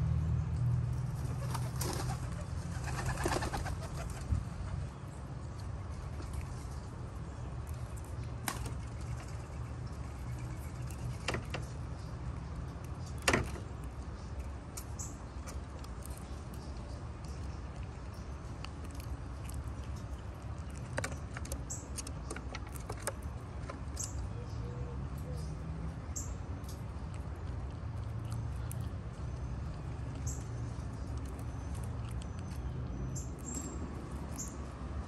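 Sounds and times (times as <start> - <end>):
squirrel chewing clicks: 5.5 - 24.4, 25.1 - 35.0.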